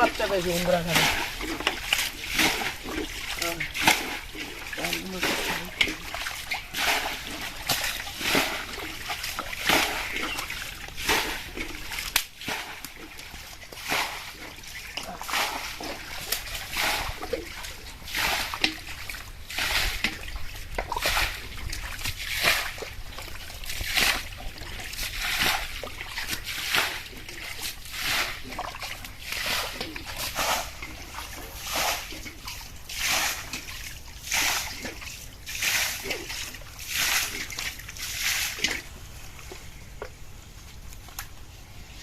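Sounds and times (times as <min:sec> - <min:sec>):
hands splashing in pond water: 0:00.0 - 0:40.2.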